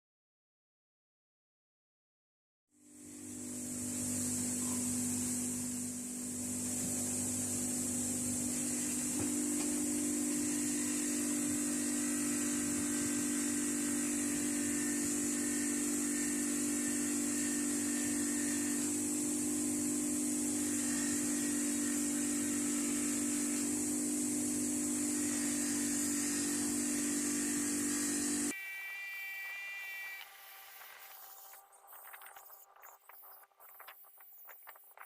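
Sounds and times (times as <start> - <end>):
electric power tool motor humming: 2.8 - 34.4.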